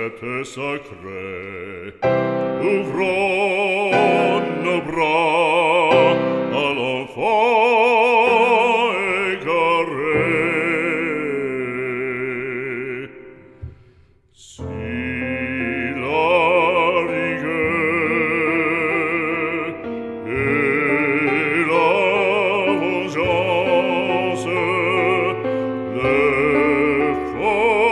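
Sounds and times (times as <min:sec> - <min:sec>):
operatic solo singing: 0:00.0 - 0:27.9.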